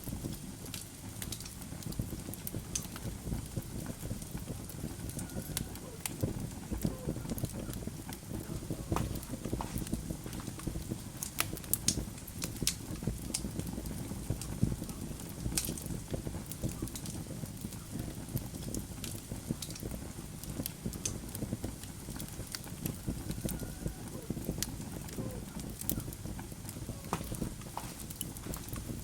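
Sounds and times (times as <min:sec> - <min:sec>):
logs crackling and popping: 0:00.0 - 0:29.0
low rumble of flames: 0:00.0 - 0:29.0.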